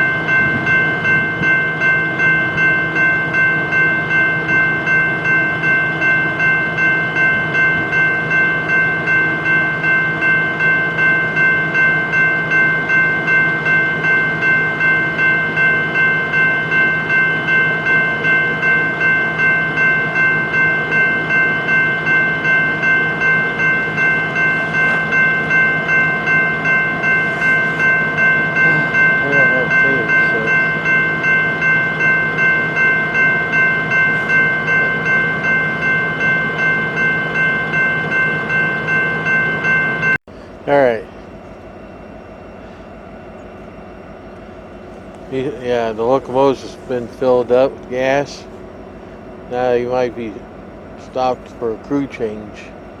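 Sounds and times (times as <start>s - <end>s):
constant high whine: 0.0s - 53.0s
diesel locomotives idling: 0.0s - 53.0s.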